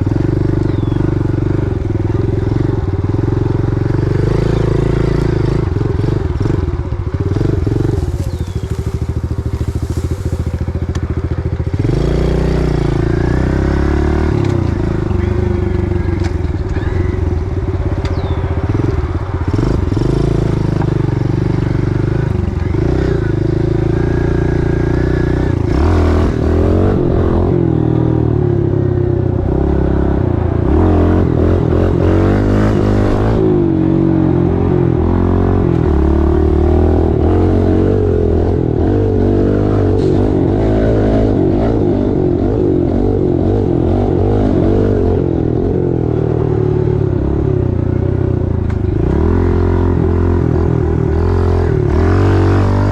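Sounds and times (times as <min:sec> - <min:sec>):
pit bike engine running: 0:00.0 - 0:52.9.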